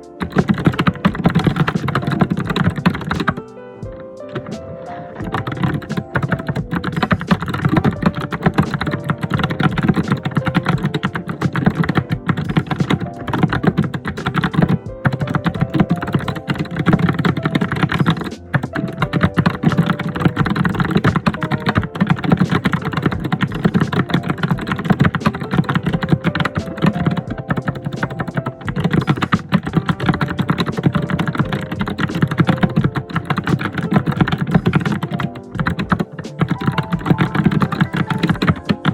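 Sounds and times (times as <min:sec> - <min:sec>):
soft melody: 0:00.0 - 0:38.9
typing on keyboard: 0:00.0 - 0:38.9.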